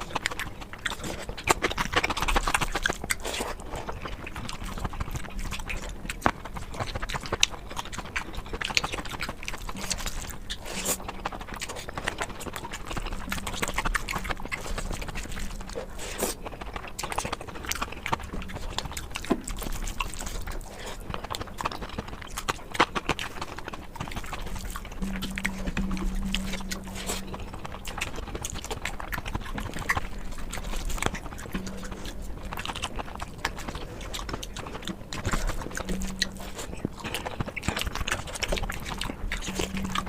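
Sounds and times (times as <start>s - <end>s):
chewing and mouth smacking: 0.0s - 40.0s
sharp mouth clicks: 0.2s - 40.0s.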